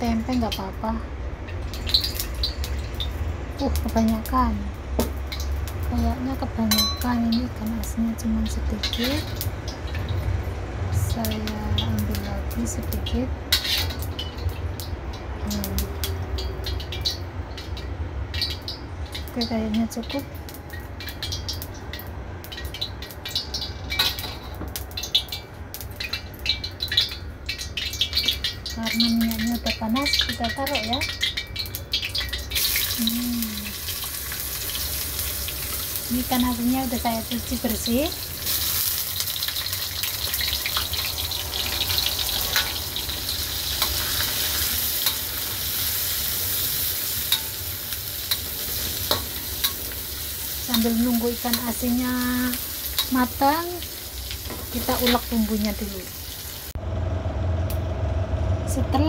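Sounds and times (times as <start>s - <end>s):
hot oil crackling in a wok: 0.0s - 58.0s.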